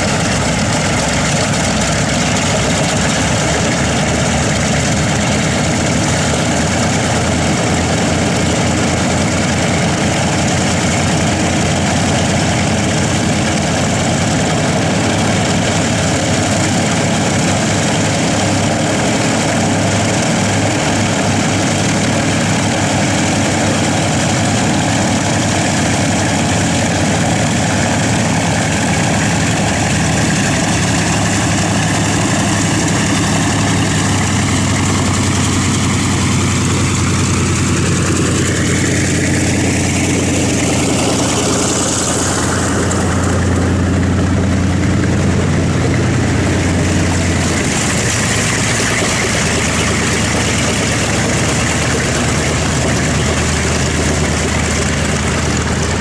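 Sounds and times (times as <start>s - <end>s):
propeller aircraft taxiing: 0.0s - 56.0s.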